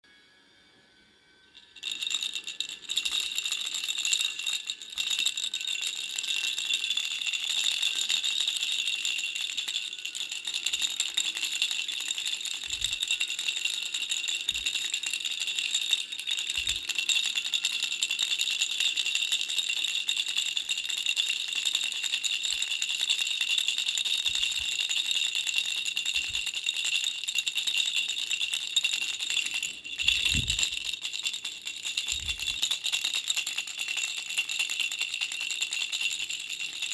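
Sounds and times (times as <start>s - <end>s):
baby rattle shaking: 1.6s - 36.9s.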